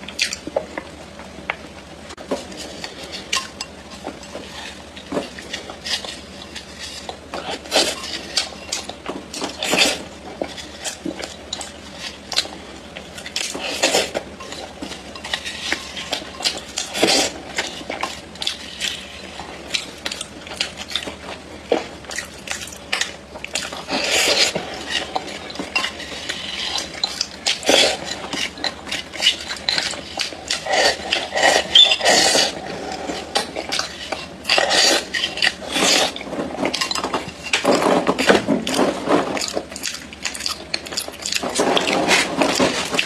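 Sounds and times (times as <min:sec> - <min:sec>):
clay being chewed and crunched: 0:02.4 - 0:43.0.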